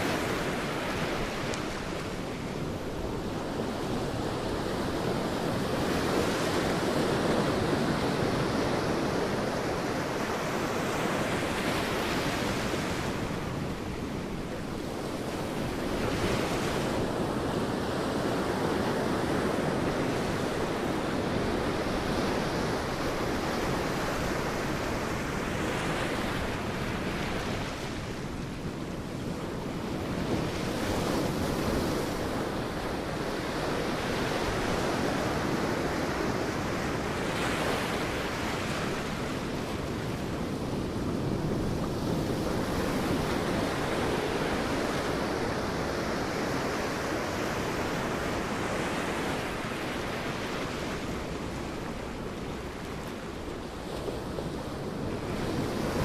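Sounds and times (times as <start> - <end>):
sea waves breaking on beach: 0.0 - 56.0
wind: 0.0 - 56.0.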